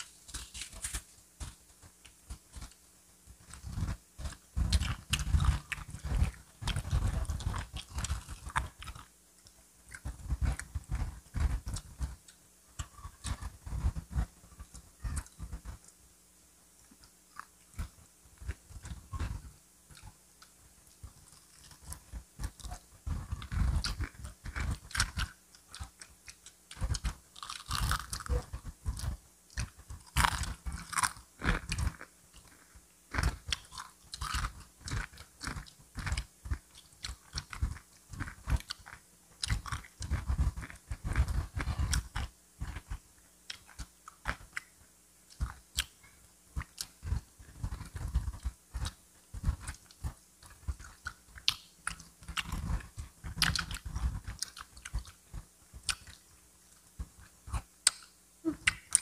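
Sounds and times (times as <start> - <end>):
crunchy chewing of fried chicken: 0.0 - 16.0, 16.8 - 59.0.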